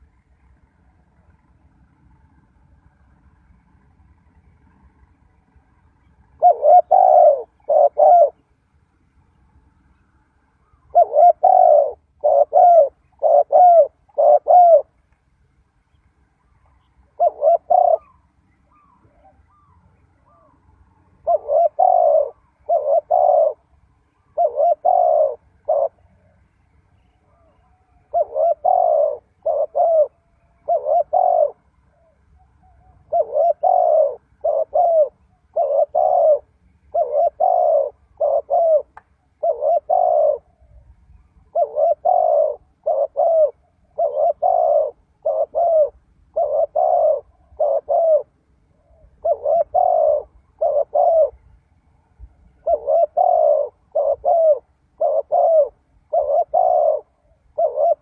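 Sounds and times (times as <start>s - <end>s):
dove cooing: 0.0s - 8.6s, 9.2s - 15.0s, 16.4s - 51.6s, 52.2s - 58.0s.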